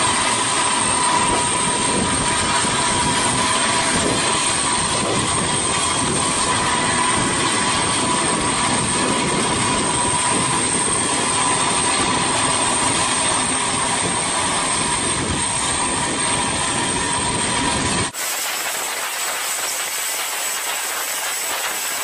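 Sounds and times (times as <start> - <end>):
aircraft turbine running: 0.0 - 22.0.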